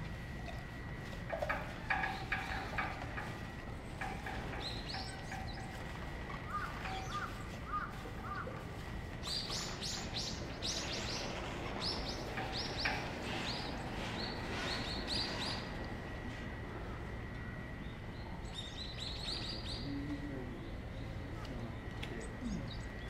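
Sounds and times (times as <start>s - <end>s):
steady low rumble: 0.0s - 23.0s
small birds chirping: 0.4s - 16.2s, 17.0s - 23.0s.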